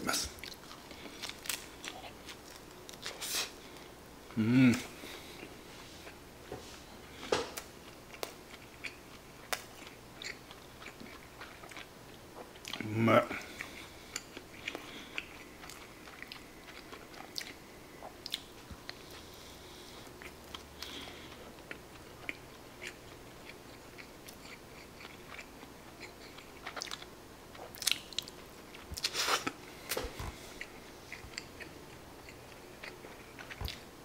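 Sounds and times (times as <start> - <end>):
chewing rice ball: 0.4 - 4.0, 7.1 - 33.9.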